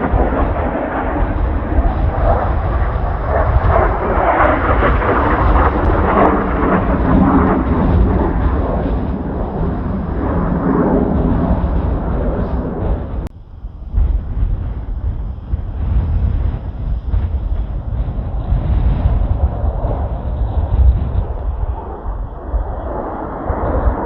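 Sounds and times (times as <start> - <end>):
jets flying over: 0.0 - 24.0
wind buffeting microphone: 0.0 - 24.0.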